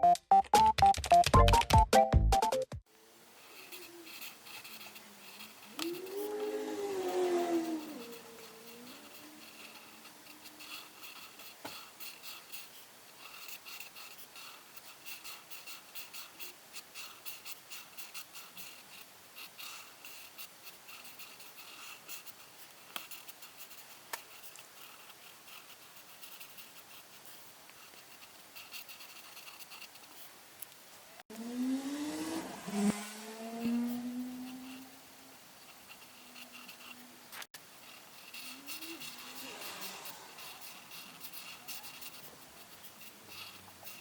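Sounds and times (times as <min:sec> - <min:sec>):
coloring strokes scratching paper: 0:03.3 - 0:30.4, 0:31.7 - 0:44.0.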